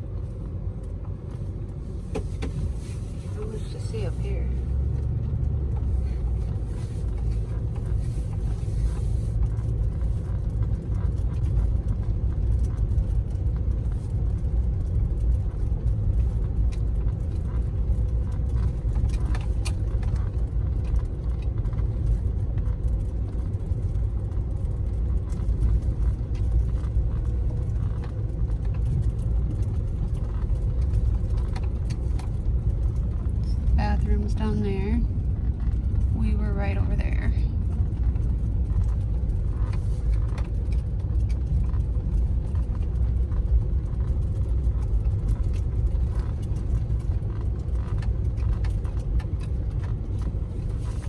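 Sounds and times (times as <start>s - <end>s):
car driving rumble inside cabin: 0.0s - 51.0s.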